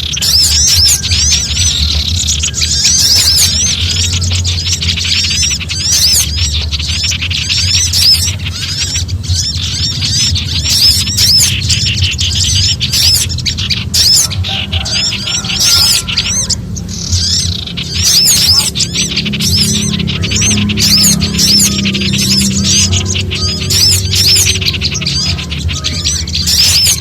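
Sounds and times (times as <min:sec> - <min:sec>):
songbirds alarm chatter: 0:00.0 - 0:27.0
steady low hum: 0:00.0 - 0:27.0.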